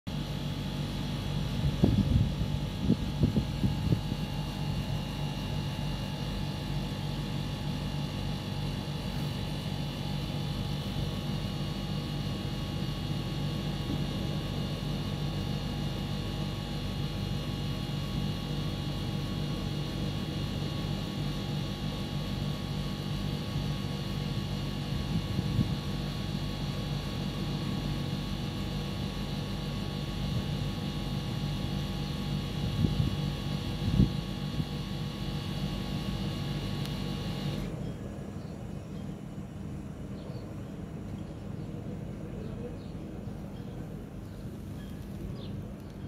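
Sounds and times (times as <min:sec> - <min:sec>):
steady mechanical hum: 0:00.1 - 0:46.0.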